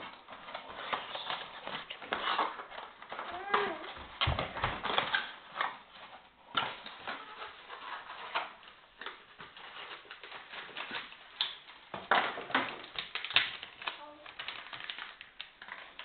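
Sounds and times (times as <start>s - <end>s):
laptop plastic clicks and rustles: 0.0s - 16.0s.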